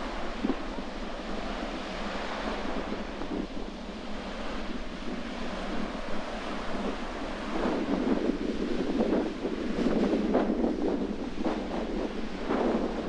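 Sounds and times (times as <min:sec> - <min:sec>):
sea surf washing against shore: 0:00.0 - 0:13.0
wind gusting across microphone: 0:00.0 - 0:13.0.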